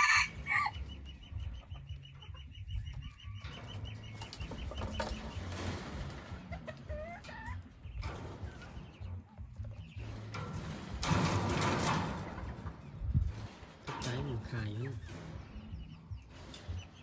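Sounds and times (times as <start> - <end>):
chicken clucking: 0.0 - 17.0.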